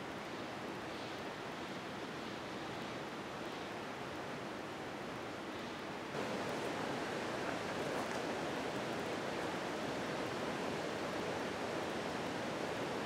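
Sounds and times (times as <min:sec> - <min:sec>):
rushing outdoor ambience: 0:00.0 - 0:13.0.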